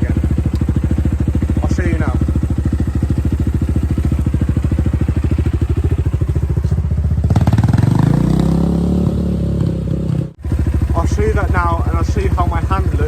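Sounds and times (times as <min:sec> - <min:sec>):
dirt bike engine: 0:00.0 - 0:13.0.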